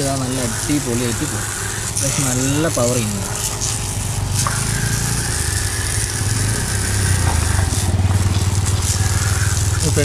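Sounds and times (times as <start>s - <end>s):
water jet hissing on tyre: 0.0s - 10.0s
water pump humming and pulsing: 0.0s - 10.0s.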